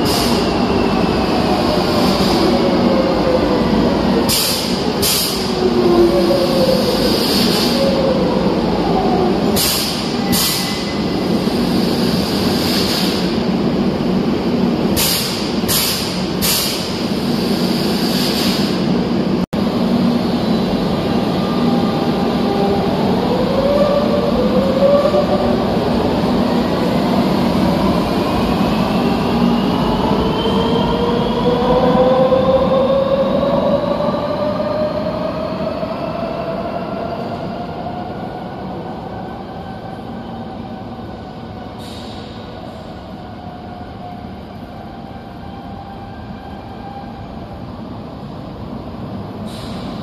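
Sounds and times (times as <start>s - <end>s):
electric train rumble and hum: 0.0s - 50.0s.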